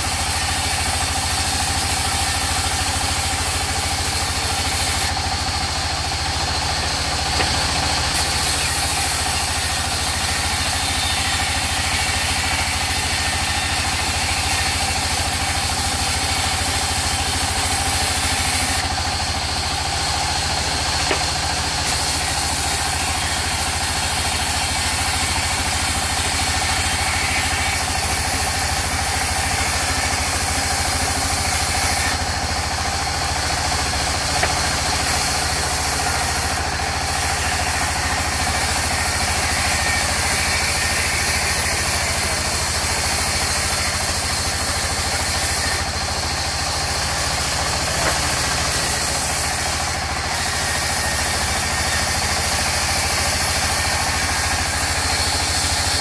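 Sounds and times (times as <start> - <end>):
band saw machine hum: 0.0 - 56.0
saw cutting hiss: 0.0 - 56.0.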